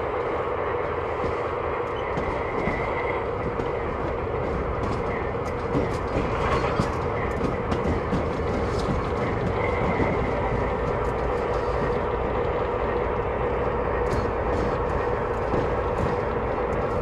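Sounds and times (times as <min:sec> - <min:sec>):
model diesel engine drone: 0:00.0 - 0:17.0
wheels clicking over rail joints: 0:00.0 - 0:17.0.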